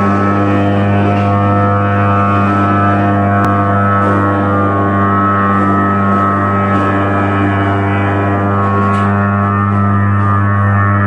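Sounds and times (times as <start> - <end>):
furnace arc humming and crackling: 0.0 - 11.0.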